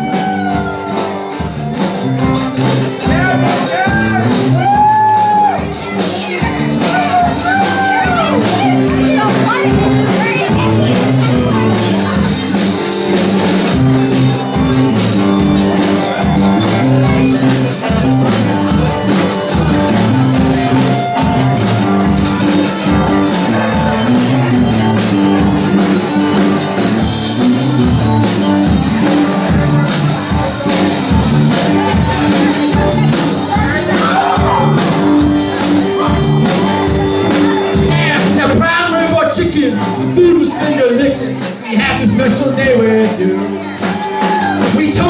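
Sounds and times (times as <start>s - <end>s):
bass guitar: 0.0s - 45.0s
drum kit beat: 0.0s - 45.0s
guitars: 0.0s - 45.0s.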